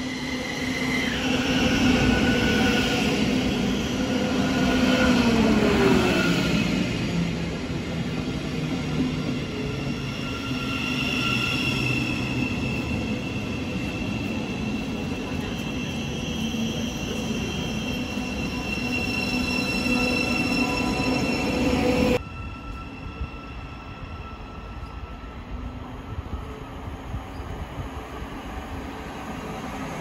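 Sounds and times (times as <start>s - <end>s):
high-pitched train whine: 0.0s - 27.6s.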